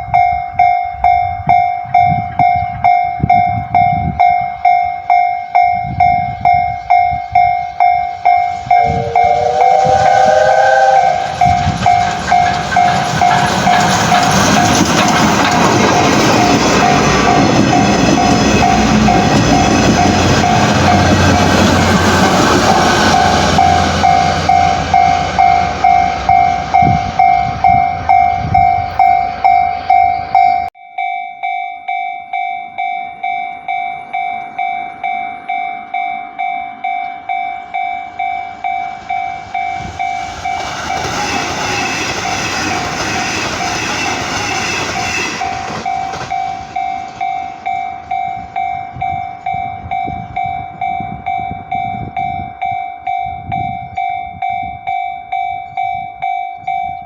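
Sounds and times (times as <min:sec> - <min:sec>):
level crossing warning bell: 0:00.0 - 0:42.6, 0:43.5 - 0:57.0
passing train: 0:00.0 - 0:57.0.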